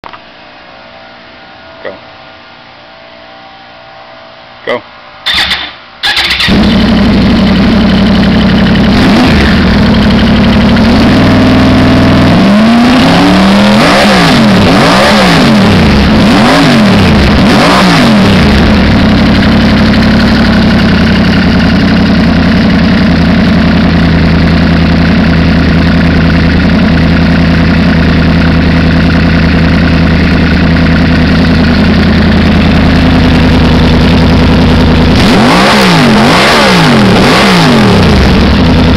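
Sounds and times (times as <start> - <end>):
motorcycle engine revving: 5.2 - 38.9.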